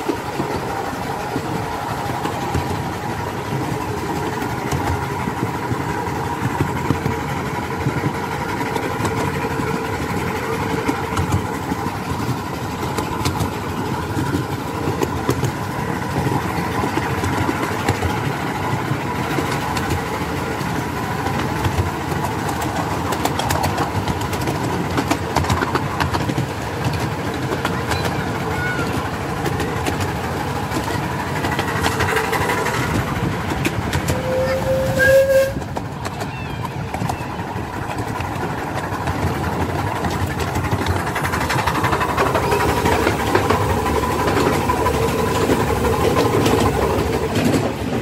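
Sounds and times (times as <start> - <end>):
miniature steam train running: 0.0 - 48.0
wheels clattering on rails: 0.0 - 48.0.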